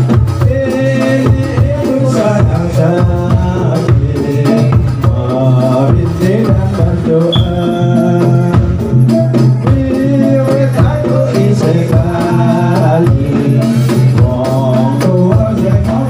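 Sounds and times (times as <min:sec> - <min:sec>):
drums beating: 0:00.0 - 0:16.0
rattle-like percussion: 0:00.0 - 0:16.0.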